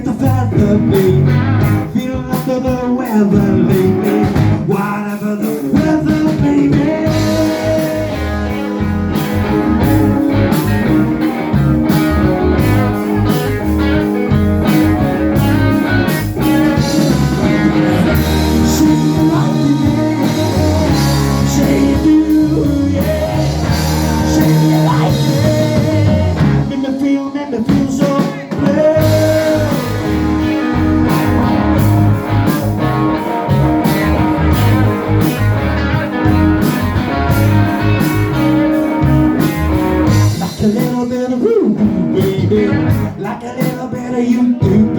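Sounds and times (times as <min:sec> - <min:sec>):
electric guitar: 0:00.0 - 0:44.9
live blues-rock band playing: 0:00.0 - 0:44.9.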